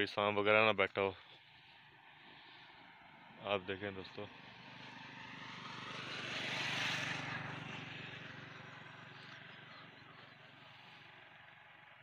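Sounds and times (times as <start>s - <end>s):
vehicle passing by: 1.4s - 12.0s.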